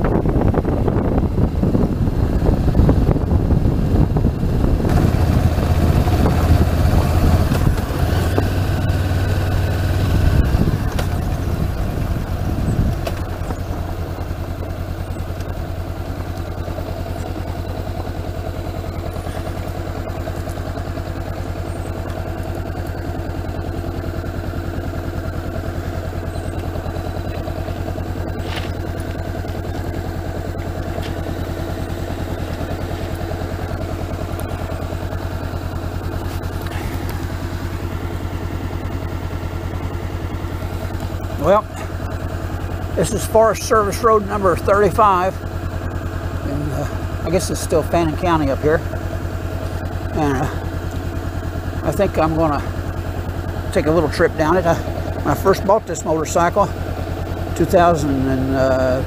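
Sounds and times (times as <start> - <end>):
wind and road noise: 0.0 - 58.4
motorcycle engine running: 0.0 - 59.0.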